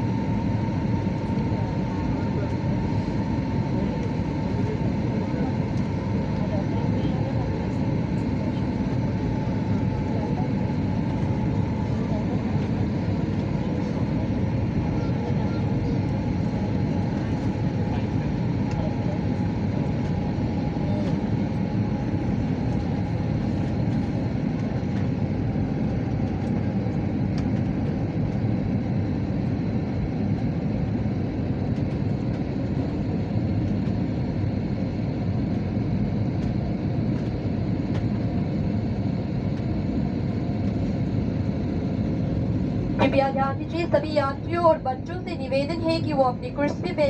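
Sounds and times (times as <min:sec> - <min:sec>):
airliner cabin roar: 0:00.0 - 0:47.0.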